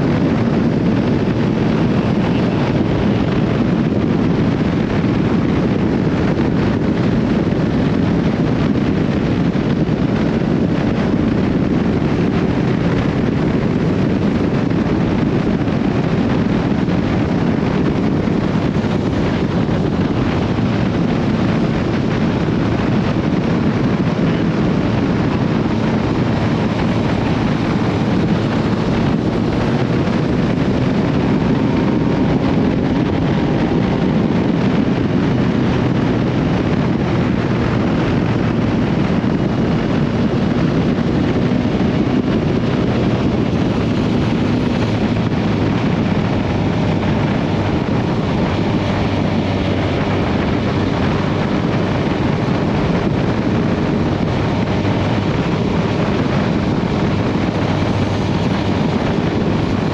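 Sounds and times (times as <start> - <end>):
motorcycle engine drone: 0.0 - 59.9
wind on microphone: 0.0 - 59.9.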